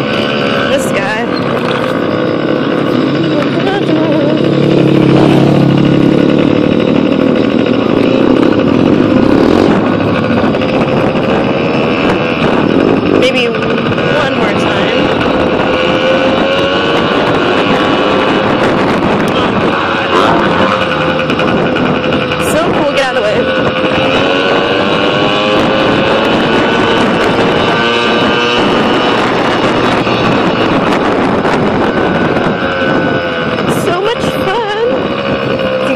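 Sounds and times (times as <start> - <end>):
pit bike engine running: 0.0 - 35.9
wind rushing over microphone: 0.0 - 35.9.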